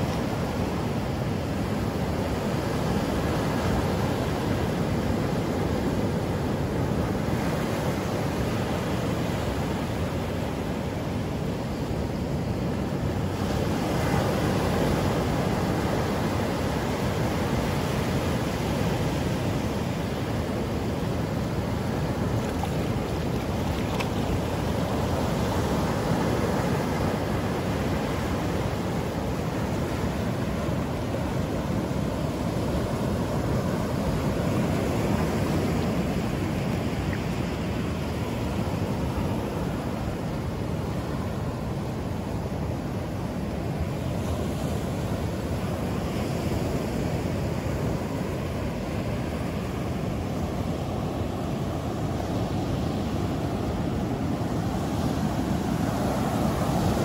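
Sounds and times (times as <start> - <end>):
waves breaking on beach: 0.0 - 57.0.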